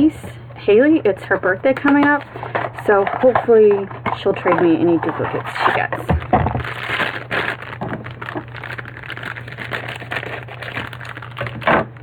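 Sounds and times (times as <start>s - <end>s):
plastic bag crinkling: 1.8s - 12.0s.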